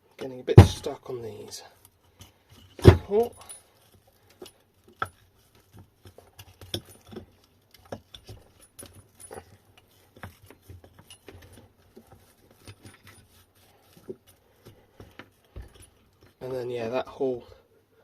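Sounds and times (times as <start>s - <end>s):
hands clicking and tapping wiring: 1.8s - 16.6s.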